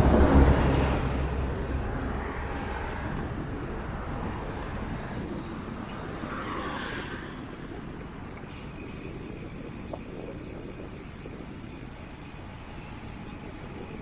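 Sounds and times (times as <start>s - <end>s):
bicycle tyres on wet path: 0.0s - 14.0s.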